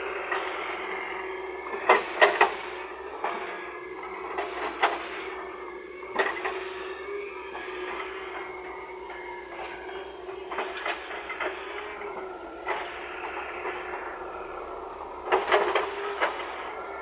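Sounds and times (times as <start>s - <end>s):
excavator engine drone: 0.0s - 17.0s.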